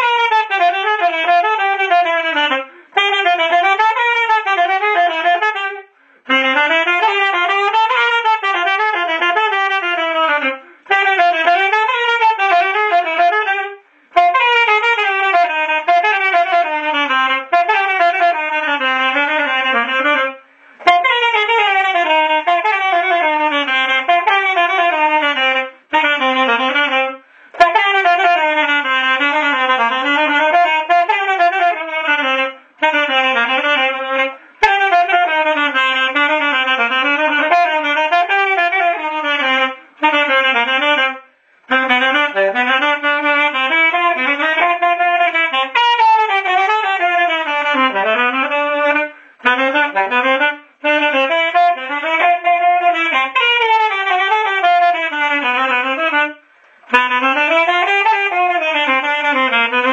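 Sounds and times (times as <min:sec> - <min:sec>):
saxophone melody: 0:00.0 - 0:59.9.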